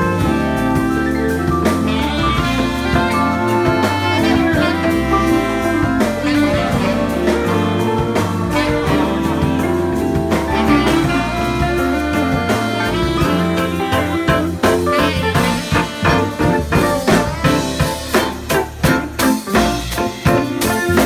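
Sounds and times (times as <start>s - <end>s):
drums: 0.0s - 21.0s
horn section playing: 0.0s - 21.0s
stepping bass line: 0.0s - 21.0s.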